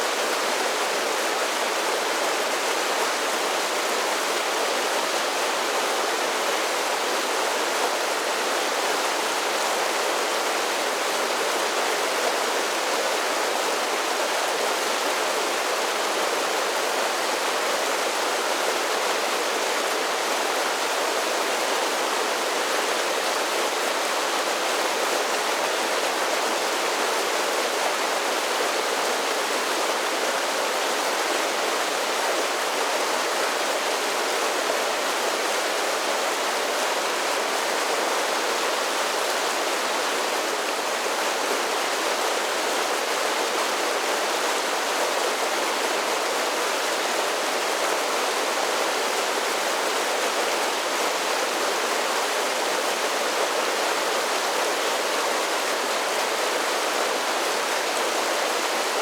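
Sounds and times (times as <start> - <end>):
creek water rushing over falls: 0.0 - 59.0.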